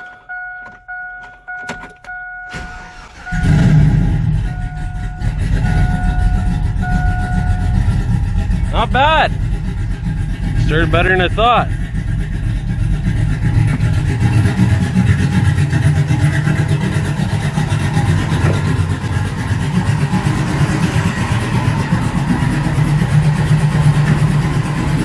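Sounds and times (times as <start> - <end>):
vee eight engine idling: 2.7 - 25.0.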